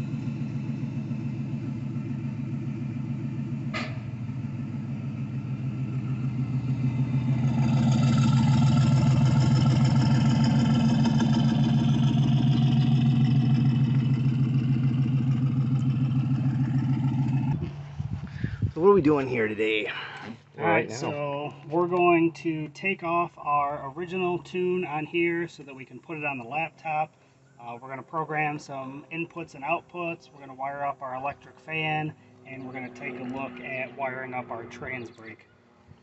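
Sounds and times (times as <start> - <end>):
car engine idling: 0.0 - 35.2.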